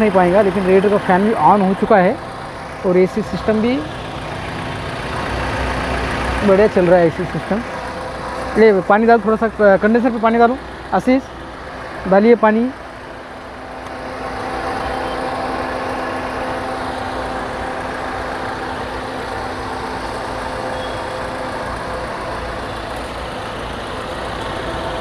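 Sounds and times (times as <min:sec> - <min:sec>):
car engine idling: 0:00.0 - 0:25.0
radiator fan running: 0:00.0 - 0:25.0.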